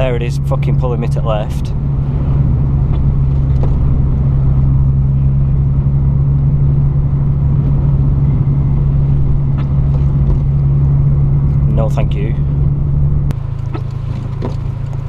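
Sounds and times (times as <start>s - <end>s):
car engine drone in cabin: 0.0s - 15.0s
road noise on wet road: 0.0s - 15.0s.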